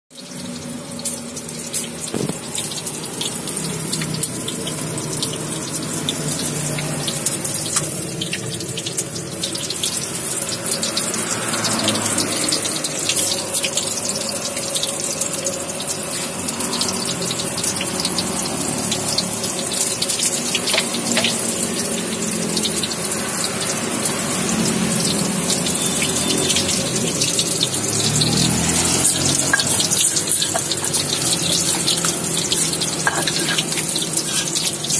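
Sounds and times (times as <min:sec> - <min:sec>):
hot oil sizzling in a wok: 0:00.1 - 0:34.9.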